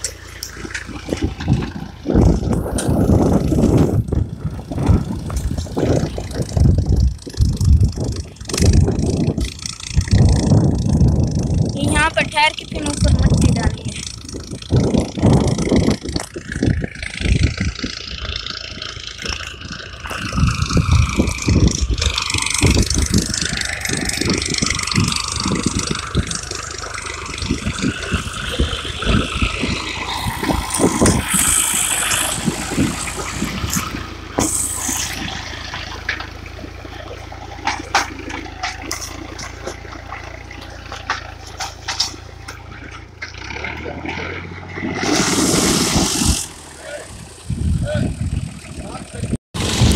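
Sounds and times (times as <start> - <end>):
cultivator rattling: 0.0 - 49.9
tractor diesel engine under load: 0.0 - 49.9.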